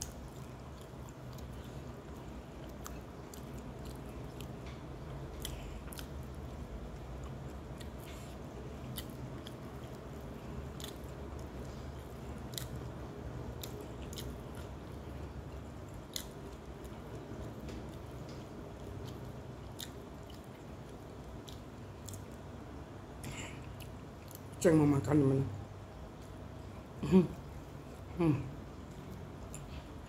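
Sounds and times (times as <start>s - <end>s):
person chewing food: 0.0s - 24.6s, 26.0s - 30.0s
steady low hum: 0.0s - 30.0s.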